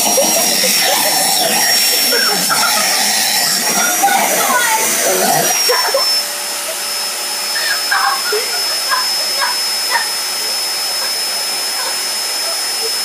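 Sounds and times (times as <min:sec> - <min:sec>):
vacuum cleaner suction and whine: 0:00.0 - 0:13.0.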